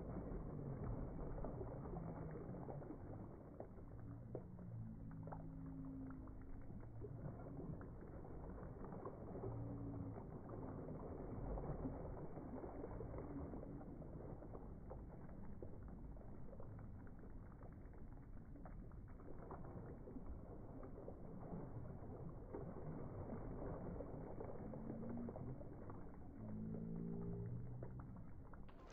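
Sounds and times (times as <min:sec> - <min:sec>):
lake water lapping: 0:00.0 - 0:04.5, 0:05.1 - 0:28.9.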